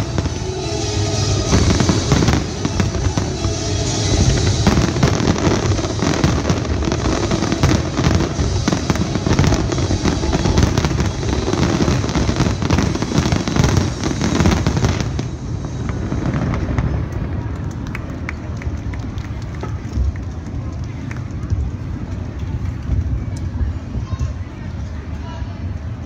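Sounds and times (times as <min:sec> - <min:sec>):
fireworks bursting and crackling: 0:00.0 - 0:26.0
low rumble: 0:00.0 - 0:26.0.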